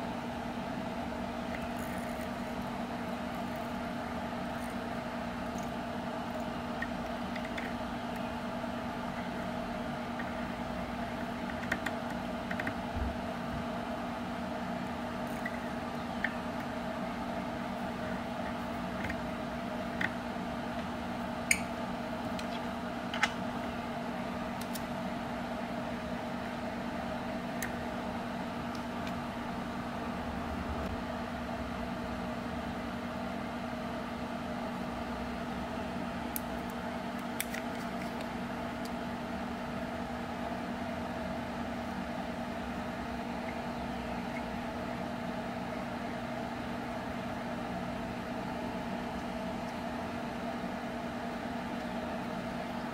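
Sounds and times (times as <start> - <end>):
appliance or fan humming: 0.0 - 52.9.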